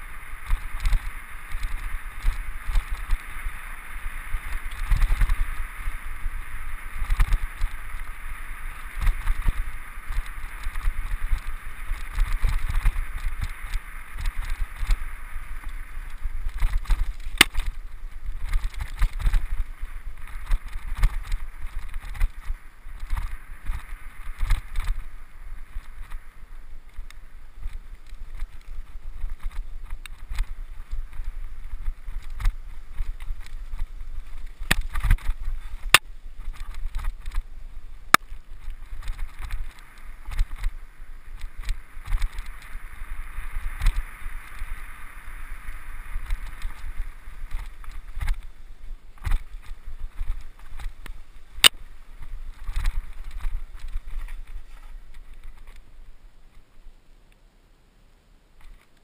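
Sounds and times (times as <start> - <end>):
bike tyres rumbling over dirt: 0.0 - 56.7.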